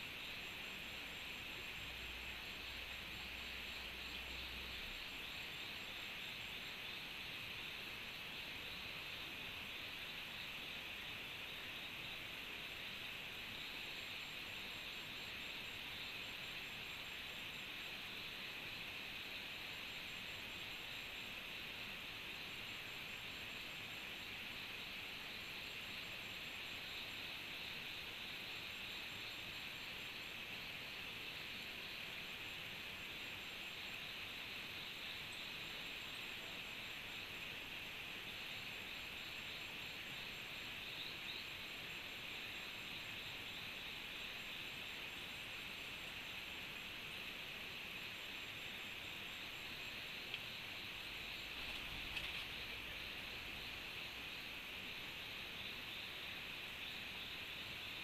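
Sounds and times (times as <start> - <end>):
high pulsing insect trill: 0.0 - 58.0
insect chorus buzzing: 0.0 - 58.0.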